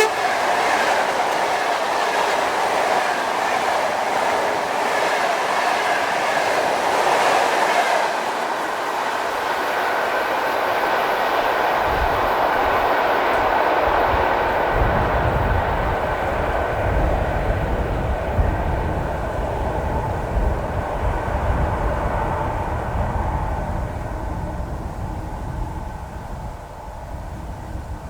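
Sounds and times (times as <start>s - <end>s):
train wheels clattering on rails: 0.0s - 25.6s.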